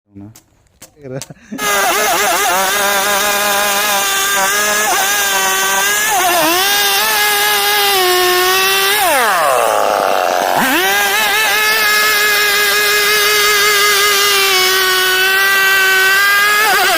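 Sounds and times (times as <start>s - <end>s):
chainsaw engine revving: 1.6s - 16.9s.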